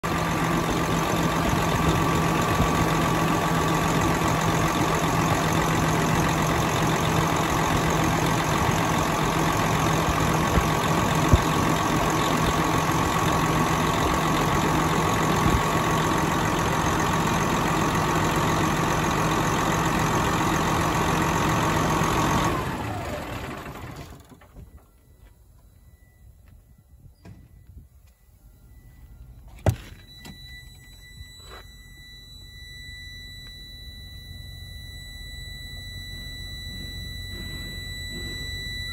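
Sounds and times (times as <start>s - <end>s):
diesel engine idling: 0.0s - 38.9s
steady whine: 0.0s - 38.9s.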